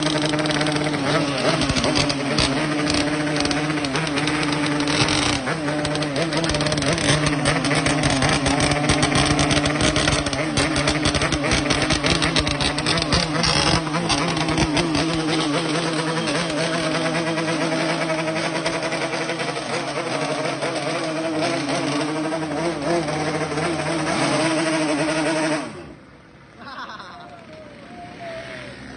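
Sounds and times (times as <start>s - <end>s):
motorcycle engine rumbling: 0.0s - 28.9s.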